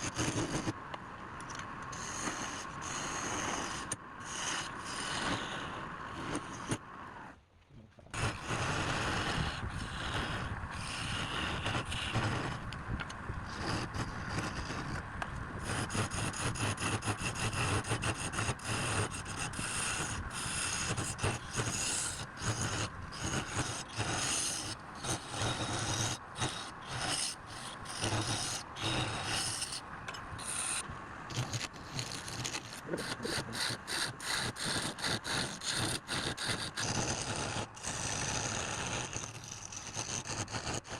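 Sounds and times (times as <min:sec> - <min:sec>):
turning tool scraping wood: 0:00.0 - 0:00.8, 0:01.9 - 0:06.8, 0:08.1 - 0:15.0, 0:15.6 - 0:40.9.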